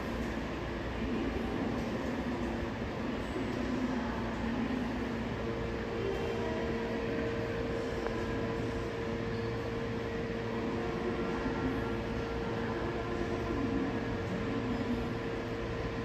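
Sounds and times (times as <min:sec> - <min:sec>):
subway train hum: 0:00.0 - 0:16.0.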